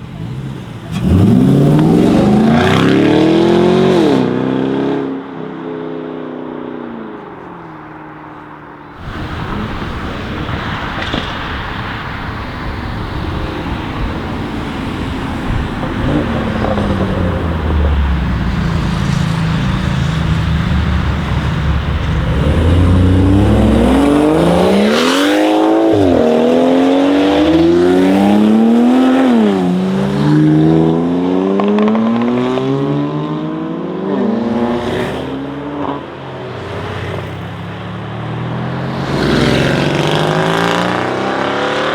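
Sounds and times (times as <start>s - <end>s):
car engine accelerating hard: 0.0s - 11.4s, 13.0s - 41.9s.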